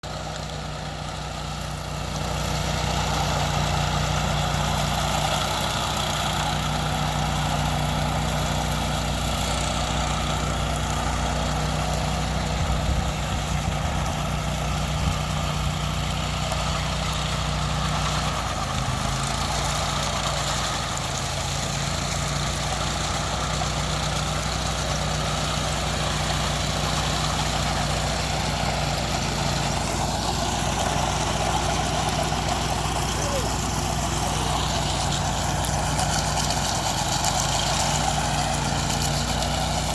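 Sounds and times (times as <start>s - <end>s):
power trowel engine running: 0.0s - 39.9s.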